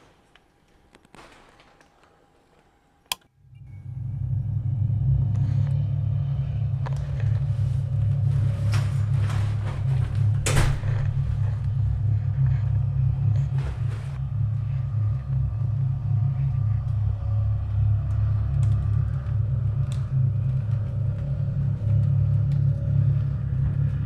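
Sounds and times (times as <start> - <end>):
deep low rumbling drone: 3.4 - 24.0.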